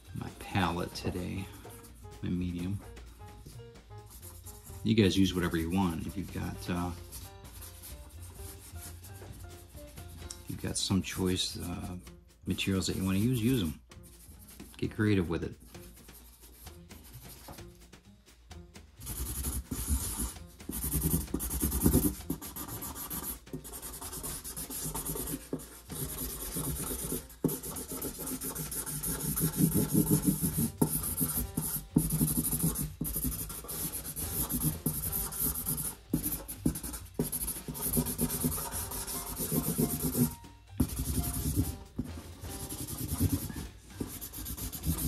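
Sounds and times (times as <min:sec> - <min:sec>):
marker scribbling on cardboard: 0:00.5 - 0:10.5, 0:12.6 - 0:17.8, 0:19.0 - 0:45.0.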